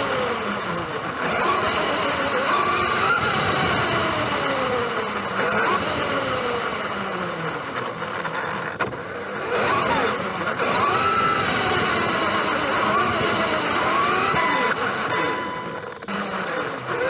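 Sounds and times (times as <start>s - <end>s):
toy truck electric motor whine: 0.0s - 17.0s.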